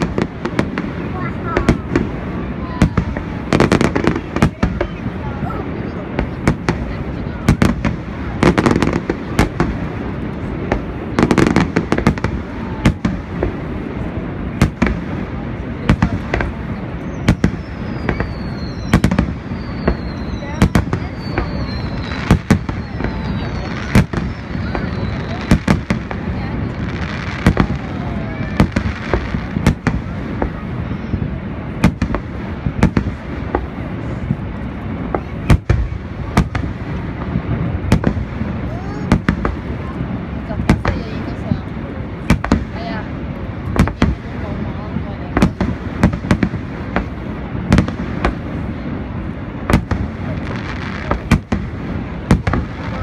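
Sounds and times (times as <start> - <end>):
background noise: 0.0 - 53.0
fireworks bangs: 0.0 - 53.0.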